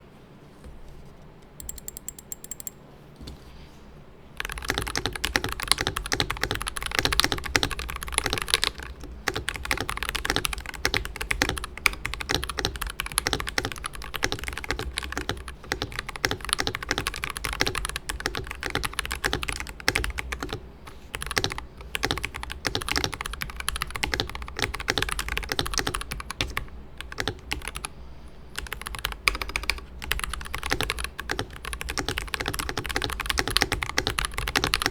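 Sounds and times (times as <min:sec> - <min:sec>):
mechanical keyboard typing: 0:01.6 - 0:02.8, 0:04.4 - 0:27.9, 0:28.6 - 0:34.9.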